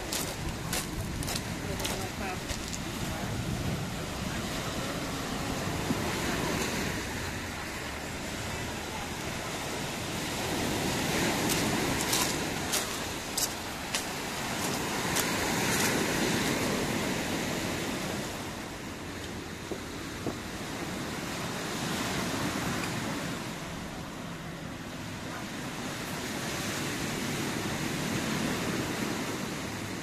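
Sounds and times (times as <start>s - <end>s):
sea surf washing: 0.0s - 30.0s
wind on microphone: 0.0s - 30.0s.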